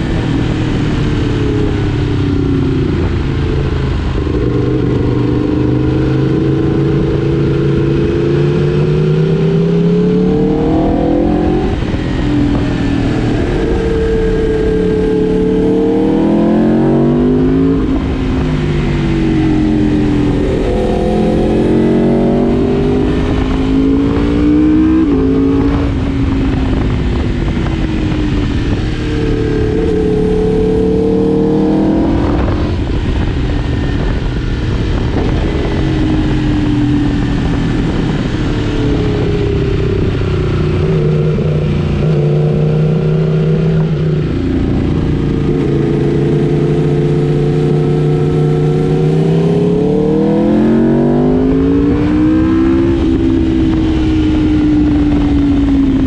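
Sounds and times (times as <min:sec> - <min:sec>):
motorbike engine accelerating: 0:00.0 - 0:56.0
wind and road noise: 0:00.0 - 0:56.0.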